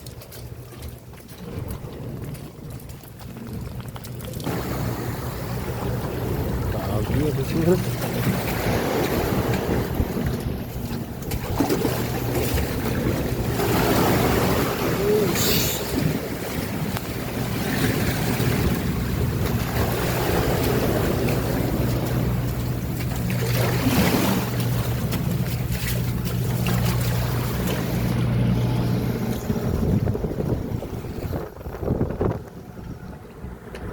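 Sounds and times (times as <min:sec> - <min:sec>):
rough sea rushing: 0:00.0 - 0:33.9
ship engine hum: 0:00.0 - 0:33.9
waves splashing: 0:00.0 - 0:33.9
wind buffeting microphone: 0:00.9 - 0:33.9.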